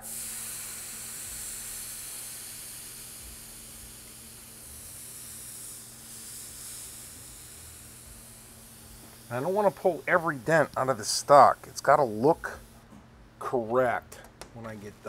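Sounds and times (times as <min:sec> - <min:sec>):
steam hissing from iron: 0:00.0 - 0:12.9.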